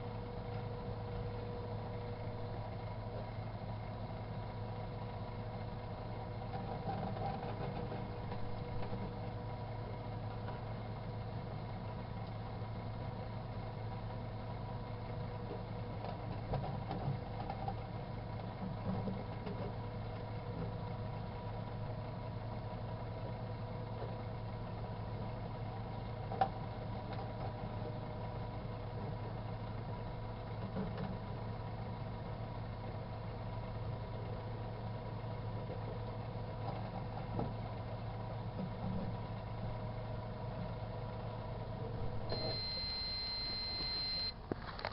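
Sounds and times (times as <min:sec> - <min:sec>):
microwave oven humming: 0:00.0 - 0:44.9.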